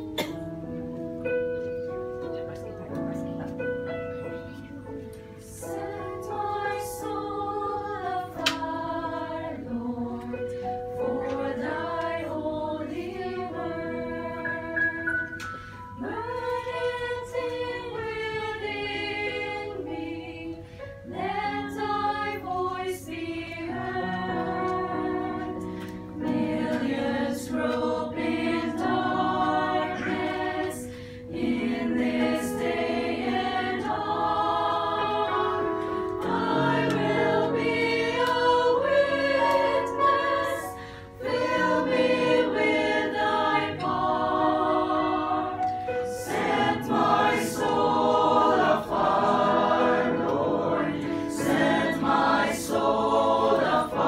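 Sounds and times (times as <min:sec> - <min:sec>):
church choir singing a hymn: 0:05.4 - 0:54.0.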